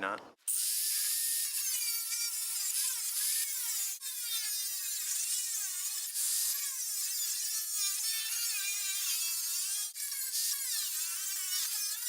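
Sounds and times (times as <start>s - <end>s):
angle grinder cutting metal: 0.5s - 12.0s.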